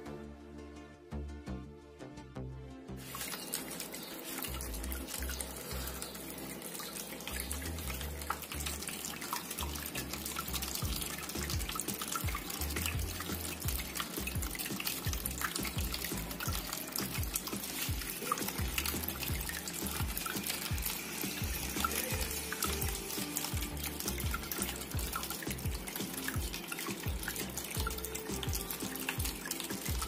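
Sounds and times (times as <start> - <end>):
fountain water trickling: 3.0 - 30.0
water drips and splashes: 3.0 - 30.0.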